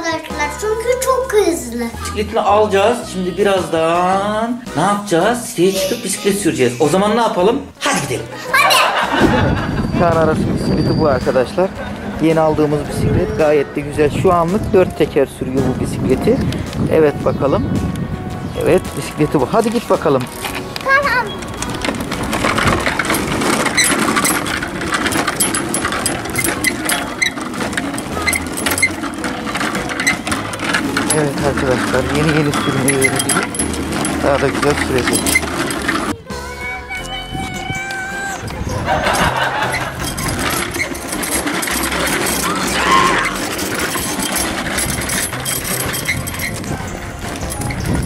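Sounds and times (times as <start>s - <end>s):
bicycle rattling over paving: 8.6s - 48.0s.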